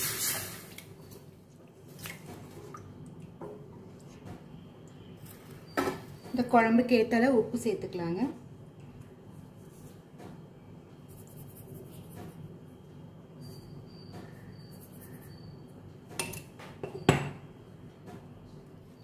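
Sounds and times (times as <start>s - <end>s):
low steady hum: 0.5s - 19.0s.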